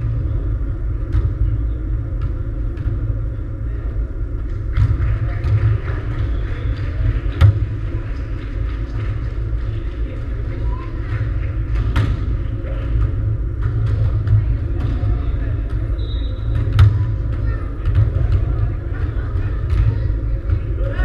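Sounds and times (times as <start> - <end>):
deep rumble of sports hall: 0.0 - 21.0.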